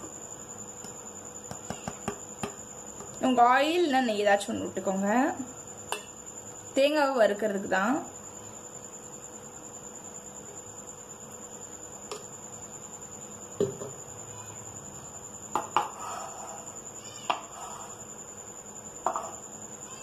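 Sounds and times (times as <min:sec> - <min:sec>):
steady high-pitched whine: 0:00.0 - 0:20.0.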